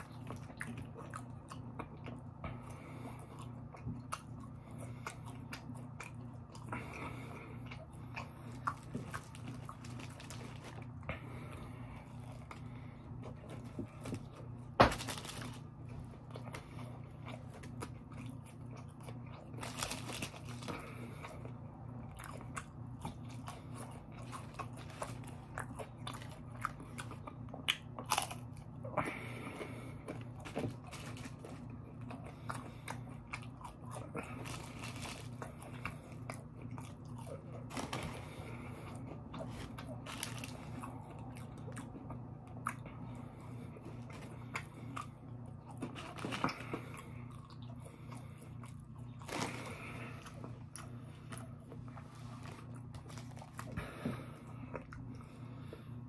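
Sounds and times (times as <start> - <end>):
chewing crispy food: 0.0 - 56.0.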